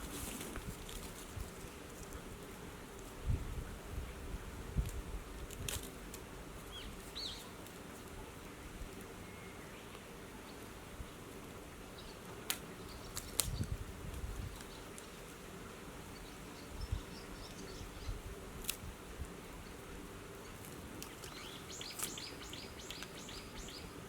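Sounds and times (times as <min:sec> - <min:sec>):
low steady buzz: 0:00.0 - 0:24.0.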